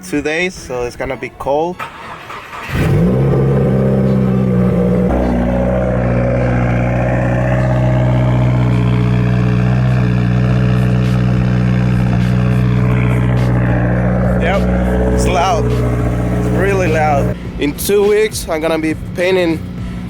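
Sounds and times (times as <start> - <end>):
car engine starting and idling: 0.9 - 20.0.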